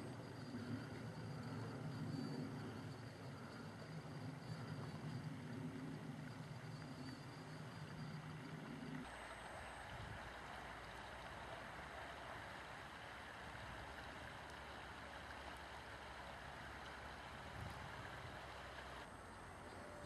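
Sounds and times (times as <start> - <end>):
river hiss: 0.0 - 20.0.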